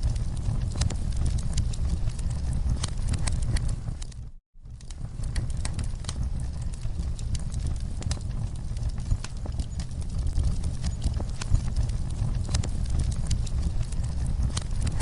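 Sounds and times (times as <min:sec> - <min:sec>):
fireplace fire crackling: 0:00.0 - 0:15.0
low rumble of flames: 0:00.0 - 0:15.0.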